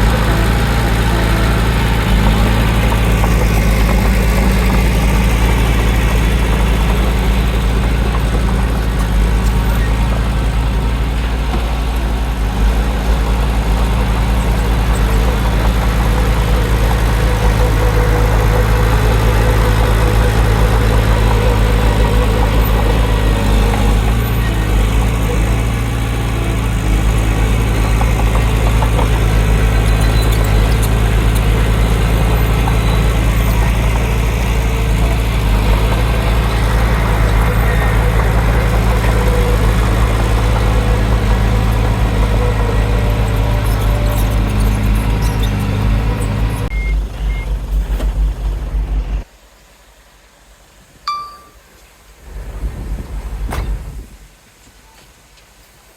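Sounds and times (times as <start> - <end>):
heavy diesel engine droning: 0.0 - 49.3.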